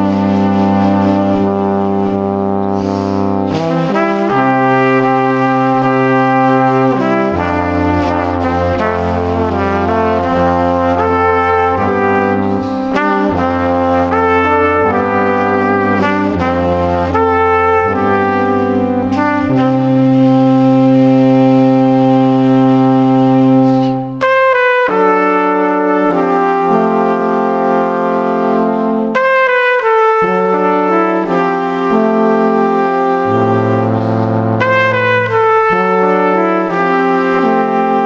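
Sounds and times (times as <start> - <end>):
instrumental music with long held chords: 0.0 - 38.0.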